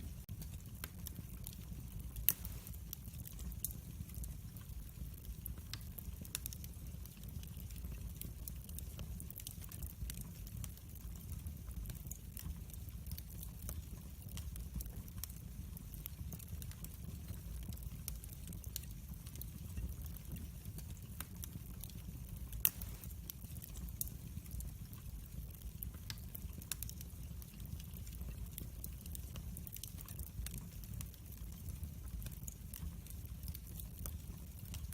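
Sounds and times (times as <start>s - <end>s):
fire crackling and popping: 0.0s - 34.9s
low rumble of flames: 0.0s - 34.9s.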